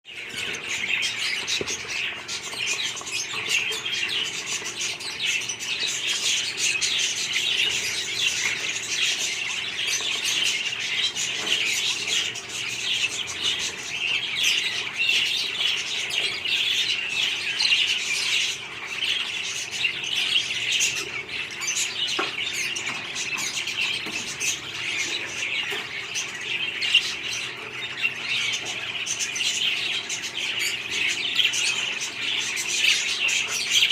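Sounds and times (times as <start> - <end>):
budgerigars chirping: 0.1 - 33.9.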